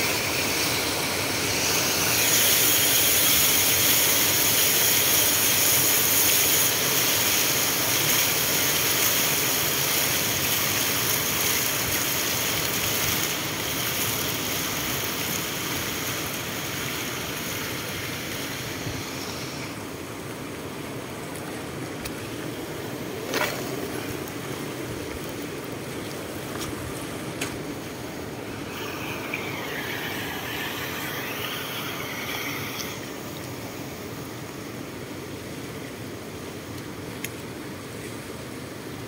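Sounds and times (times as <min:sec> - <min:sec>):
water running over stones: 0:00.0 - 0:35.0.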